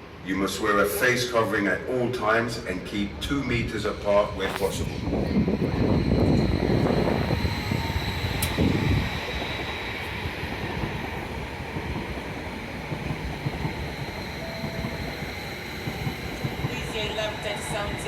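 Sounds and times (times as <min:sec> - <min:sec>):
electric train rumbling: 0:00.0 - 0:18.0
train high whine: 0:00.0 - 0:18.0.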